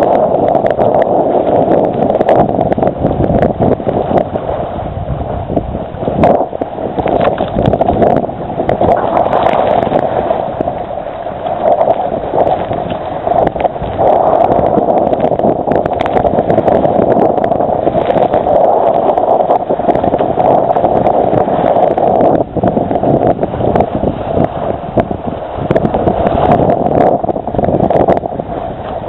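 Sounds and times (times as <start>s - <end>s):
water rushing along a hull: 0.0s - 29.0s
wind buffeting microphone: 0.0s - 29.0s.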